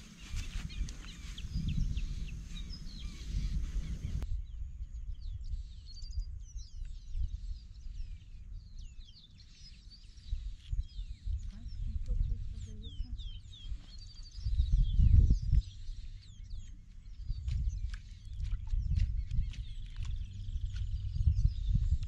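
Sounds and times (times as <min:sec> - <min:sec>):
small birds chirping: 0:00.0 - 0:22.0
wind rumbling on microphone: 0:00.0 - 0:22.0.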